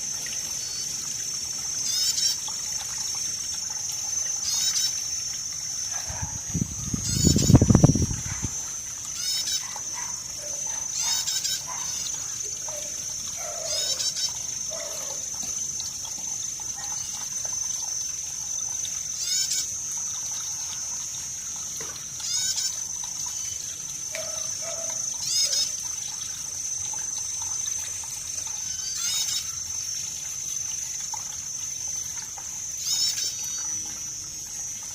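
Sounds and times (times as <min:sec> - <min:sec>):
water trickling and gurgling: 0:00.0 - 0:34.9.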